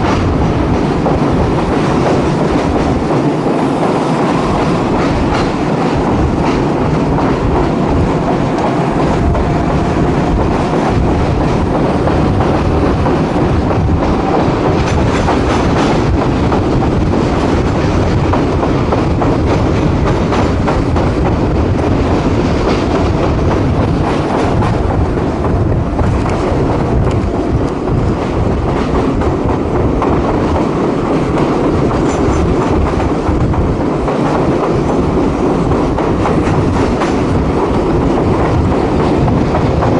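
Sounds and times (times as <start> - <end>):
clickety-clack over rail joints: 0.0 - 39.9
rumble of wheels on track: 0.0 - 39.9.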